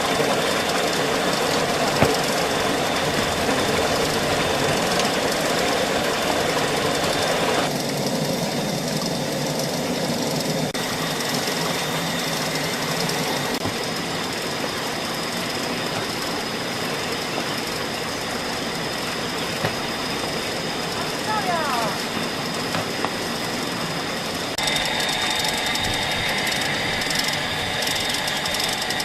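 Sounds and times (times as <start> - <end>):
machine running with mechanical clatter: 0.0 - 29.0.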